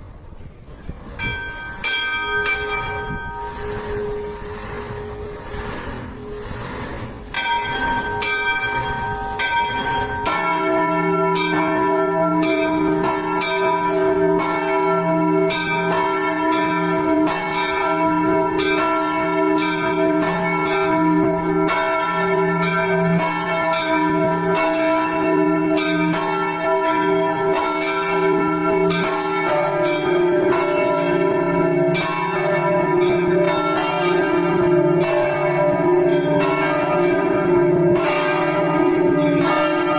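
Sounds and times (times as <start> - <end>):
church bells pealing: 1.0 - 39.9.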